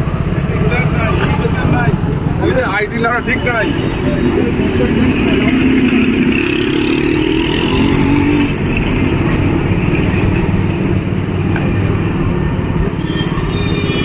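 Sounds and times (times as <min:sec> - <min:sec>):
motorcycle and vehicle engines: 0:00.0 - 0:14.0.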